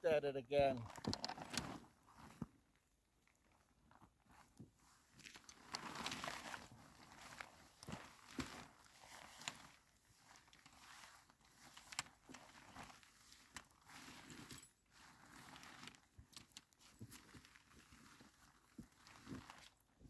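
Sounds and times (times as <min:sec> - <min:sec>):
tent fabric rustling and crinkling: 0:00.8 - 0:20.0.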